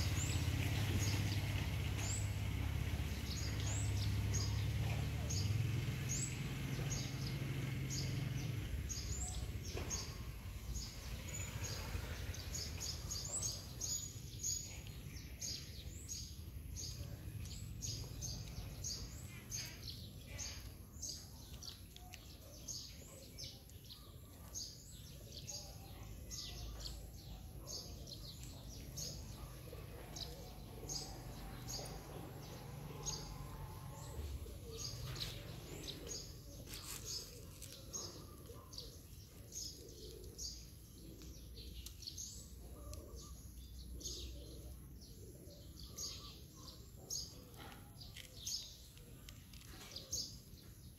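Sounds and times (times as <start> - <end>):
low outdoor rumble: 0.0 - 25.2, 25.9 - 46.0
small birds chirping: 0.0 - 50.9.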